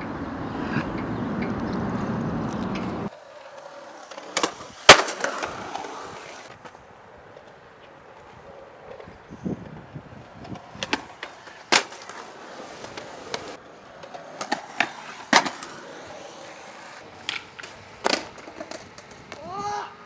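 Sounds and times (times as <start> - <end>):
skateboard wheels rolling on concrete: 0.0 - 20.0
skateboard clacking on ground: 2.5 - 19.6.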